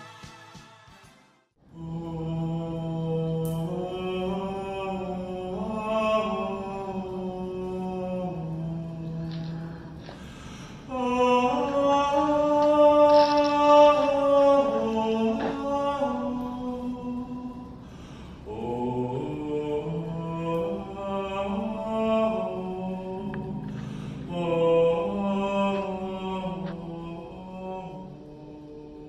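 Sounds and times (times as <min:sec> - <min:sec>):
choral chanting: 0:01.7 - 0:10.2, 0:10.8 - 0:17.8, 0:18.4 - 0:29.0.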